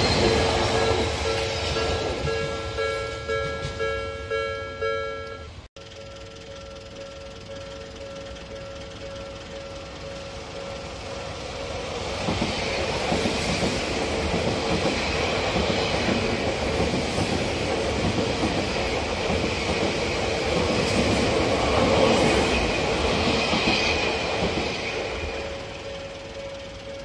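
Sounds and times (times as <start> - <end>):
train wheels rushing on rails: 0.0 - 4.5, 5.8 - 27.0.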